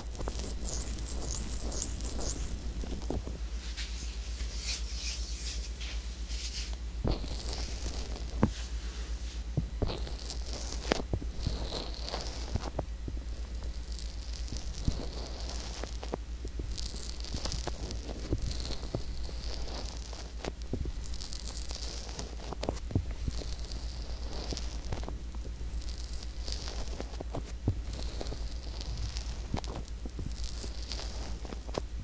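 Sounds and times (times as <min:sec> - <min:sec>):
fingertips rubbing microphone: 0:00.0 - 0:03.4, 0:06.6 - 0:08.5, 0:09.8 - 0:31.9
steady low hum: 0:00.0 - 0:32.0.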